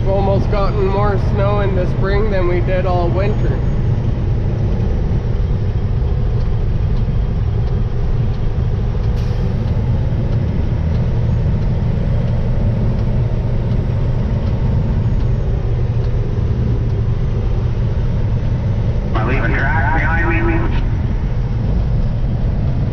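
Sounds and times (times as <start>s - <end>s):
engine and road rumble: 0.0s - 22.9s.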